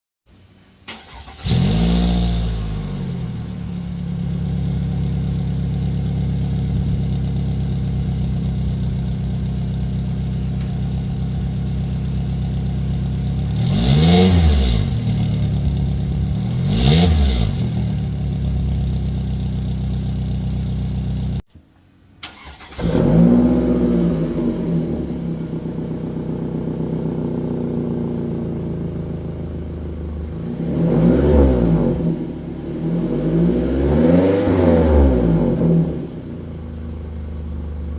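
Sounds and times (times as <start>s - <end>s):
car engine starting and idling: 0.6s - 37.9s
car engine revving: 0.9s - 21.4s, 22.2s - 37.1s.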